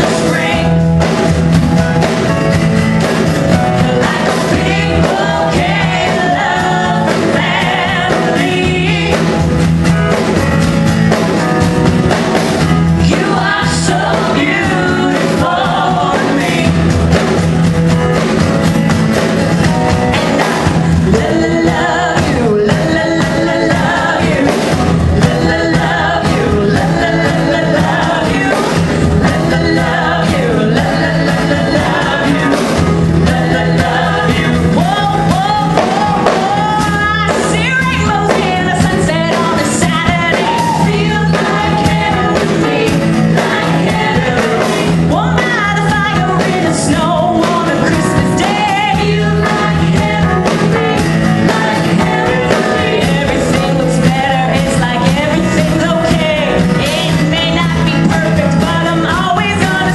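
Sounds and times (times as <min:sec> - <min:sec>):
acoustic guitar: 0:00.0 - 0:59.9
women singing into microphones: 0:03.5 - 0:09.4, 0:12.9 - 0:17.0, 0:20.2 - 0:59.9.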